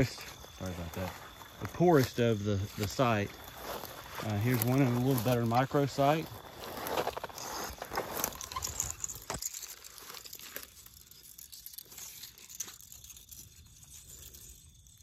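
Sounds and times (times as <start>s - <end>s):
dry brush crackling underfoot: 0.0s - 14.6s.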